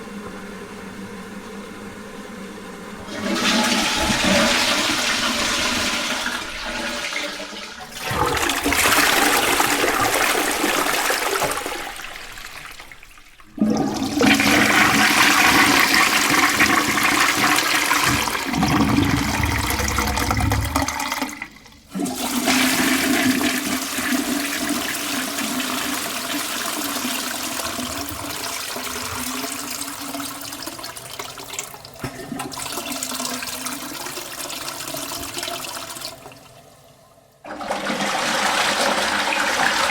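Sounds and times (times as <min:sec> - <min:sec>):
toilet flushing: 0:00.0 - 0:39.9.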